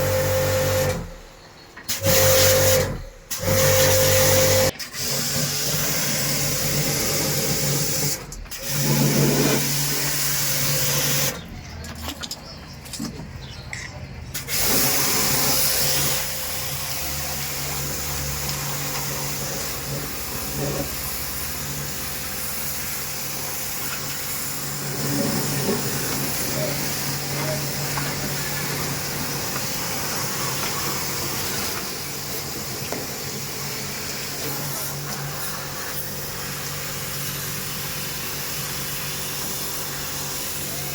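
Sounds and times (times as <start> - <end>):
water spraying with a hiss: 1.9 - 11.4, 14.3 - 40.9.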